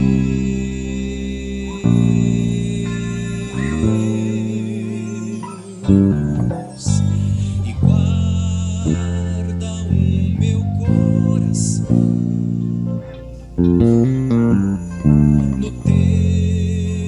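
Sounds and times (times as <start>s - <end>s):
band playing worship song: 0.0s - 17.0s
electric bass guitar: 0.0s - 17.0s.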